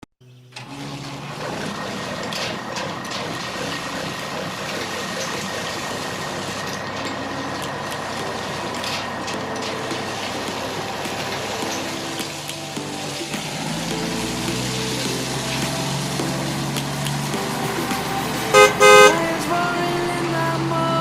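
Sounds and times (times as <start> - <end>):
truck engine running: 0.5 - 21.0.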